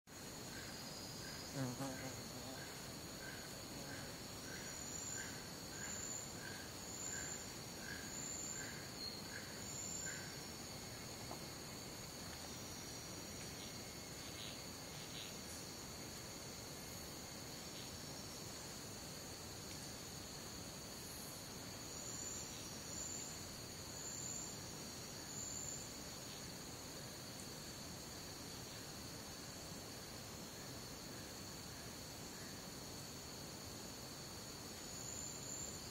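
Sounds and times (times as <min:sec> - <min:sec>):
high-pitched insect trills: 0:00.1 - 0:35.9
low insect chirp: 0:00.1 - 0:35.9.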